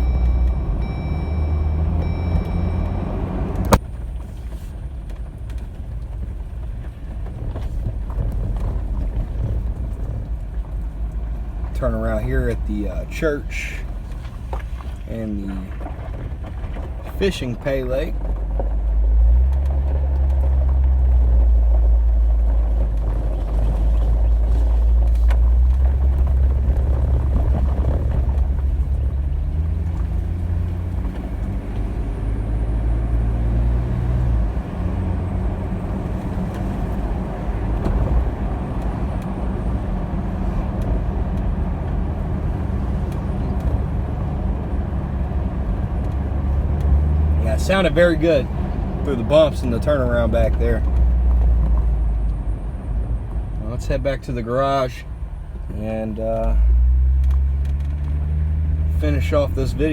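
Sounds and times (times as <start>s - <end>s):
car engine and road drone: 0.0s - 59.9s.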